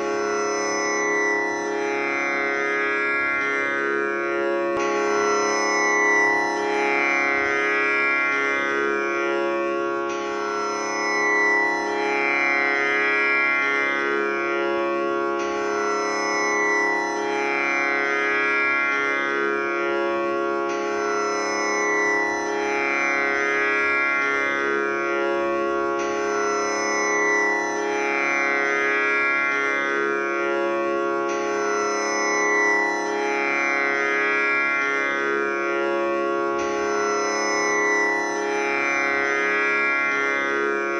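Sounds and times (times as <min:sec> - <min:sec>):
tanpura drone with buzzing strings: 0:00.0 - 0:40.9.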